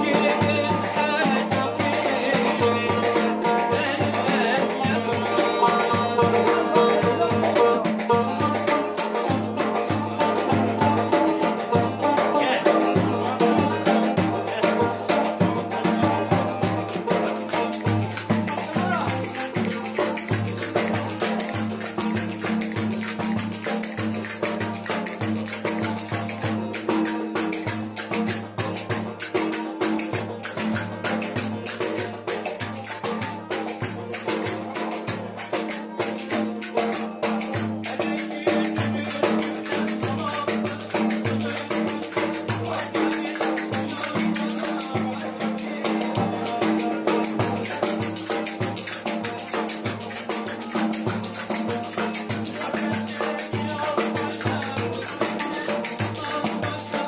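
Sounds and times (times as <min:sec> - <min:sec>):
lively folk dance music: 0:00.0 - 0:57.0.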